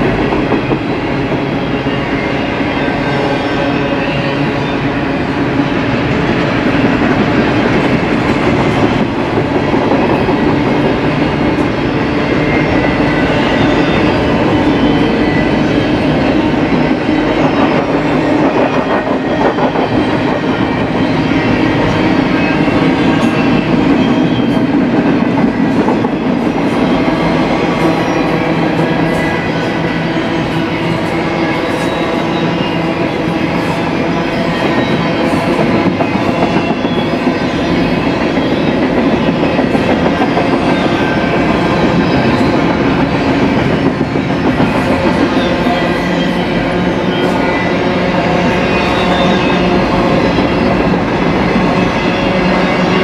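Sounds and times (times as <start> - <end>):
freight train wheels rolling on track: 0.0 - 53.0.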